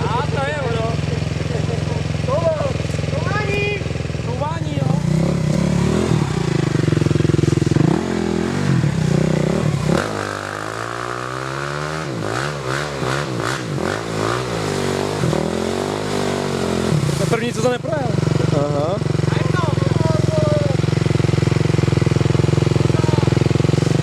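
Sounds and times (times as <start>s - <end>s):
quad bike engine revving: 0.0s - 24.0s.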